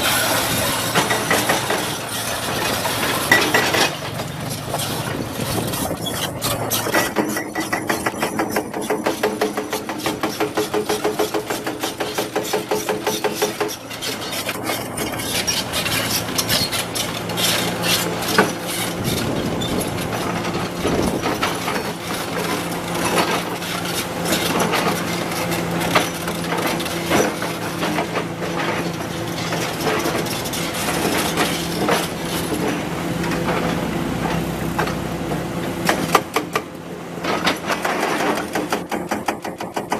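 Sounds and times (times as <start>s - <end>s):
bucket clattering and scraping: 0.0s - 36.4s
excavator diesel engine humming: 0.0s - 38.7s.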